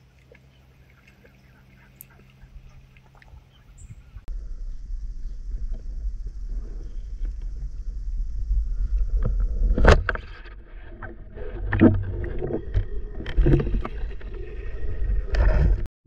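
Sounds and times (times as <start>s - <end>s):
water splashing and sloshing: 0.0s - 4.3s, 5.5s - 15.9s
wind rumble on microphone: 2.0s - 15.9s.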